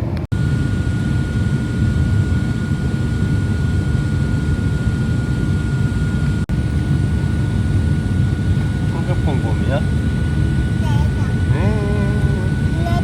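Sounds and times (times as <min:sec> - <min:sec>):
jet engine and airflow rumble: 0:00.0 - 0:13.0.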